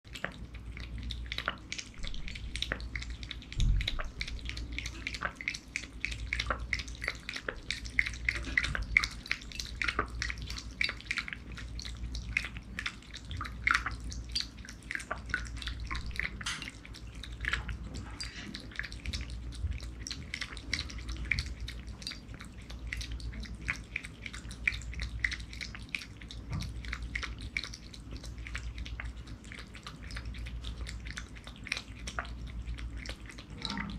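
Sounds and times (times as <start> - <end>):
cat eating from a bowl: 0.1 - 33.9
steady low hum: 0.1 - 33.9.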